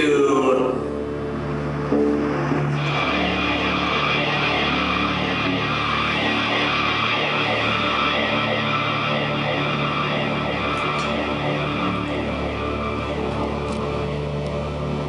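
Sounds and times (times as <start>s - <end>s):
industrial band droning live: 0.0s - 15.0s.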